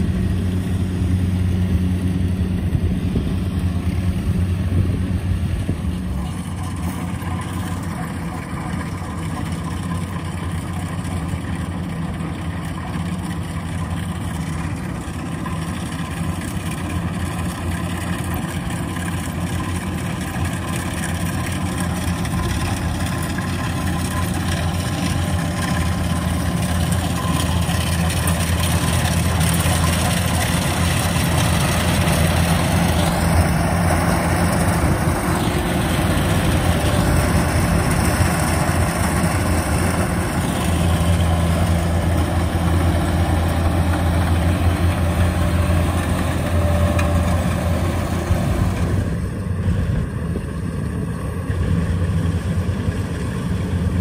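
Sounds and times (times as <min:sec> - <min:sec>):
diesel engine of combine harvester: 0:00.0 - 0:54.0.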